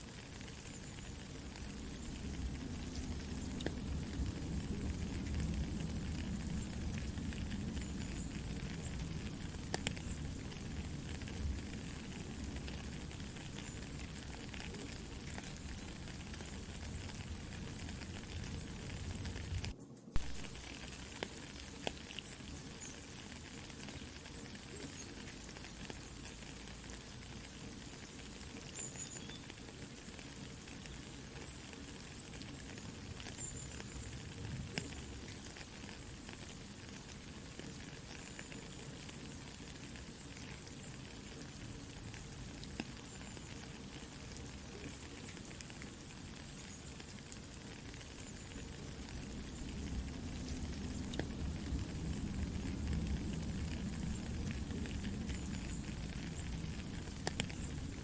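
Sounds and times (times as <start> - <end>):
campfire crackling and popping: 0.0 - 58.0
soft rain: 0.0 - 58.0.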